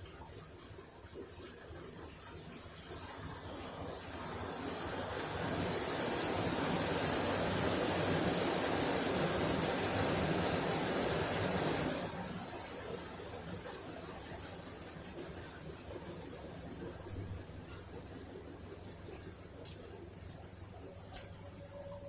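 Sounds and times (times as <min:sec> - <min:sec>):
washing machine rushing water: 0:00.0 - 0:22.0.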